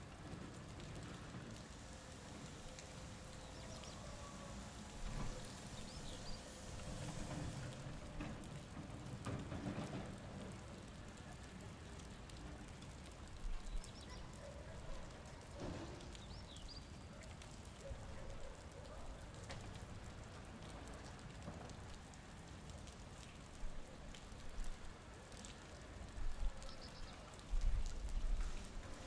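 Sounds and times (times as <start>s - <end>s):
rainwater dripping: 0.0s - 29.0s.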